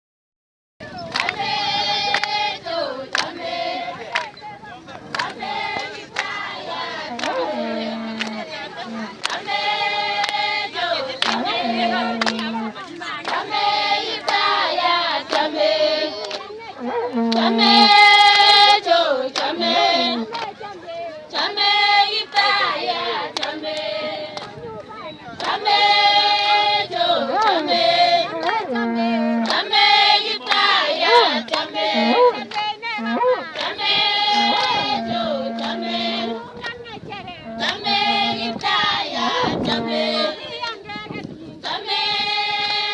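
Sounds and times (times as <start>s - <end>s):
group of voices singing: 0.8s - 42.9s.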